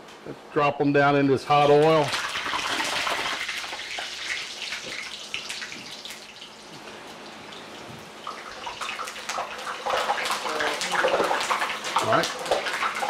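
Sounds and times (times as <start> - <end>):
fries sizzling in hot oil: 1.5 - 13.0.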